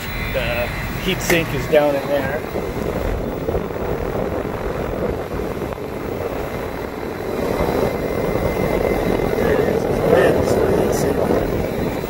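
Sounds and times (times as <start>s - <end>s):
heat pump fan blowing air: 0.0s - 12.0s.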